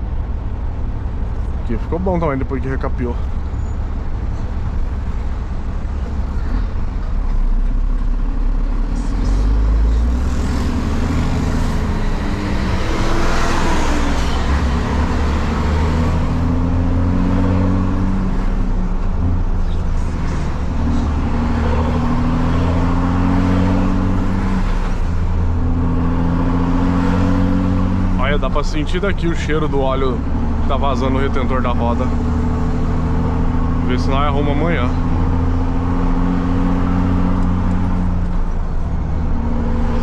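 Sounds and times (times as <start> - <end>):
diesel truck engine shifting gears: 0.0 - 40.0.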